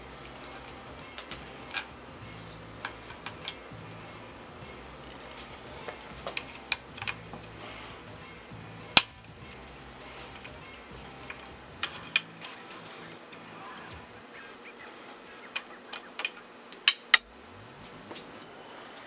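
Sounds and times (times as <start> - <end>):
quiet background music: 0.0 - 19.0.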